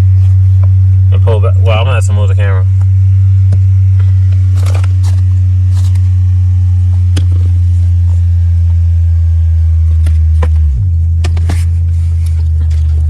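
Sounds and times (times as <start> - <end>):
loud low hum: 0.0 - 13.0.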